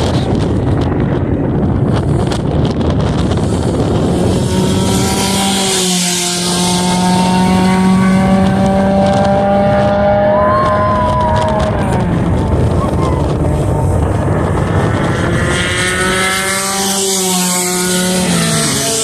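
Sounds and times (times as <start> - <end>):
rushing wind-like noise: 0.0 - 19.0
race car engine accelerating: 3.2 - 19.0.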